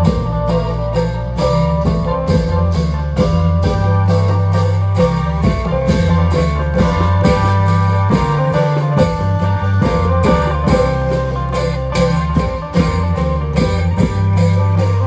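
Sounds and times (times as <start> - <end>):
amplified plucked-string melody: 0.0 - 15.0
drum strokes in a steady beat: 0.0 - 15.0
sustained bass line: 0.0 - 15.0.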